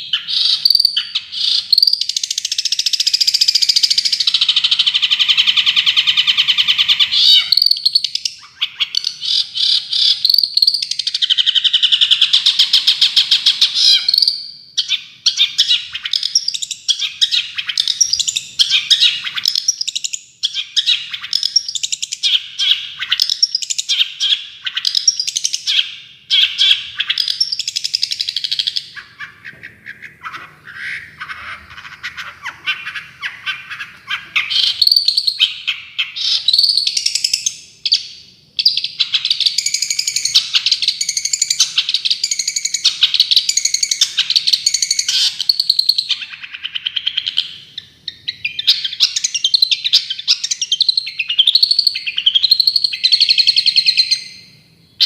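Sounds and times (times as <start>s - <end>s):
bird chattering: 0.0s - 54.4s
songbird trilling: 0.0s - 54.5s.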